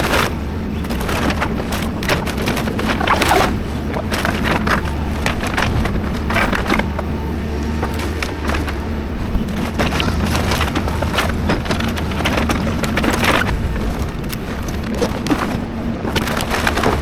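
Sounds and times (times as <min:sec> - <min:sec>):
building material cracking and crashing: 0:00.0 - 0:17.0
excavator diesel engine running: 0:00.0 - 0:17.0.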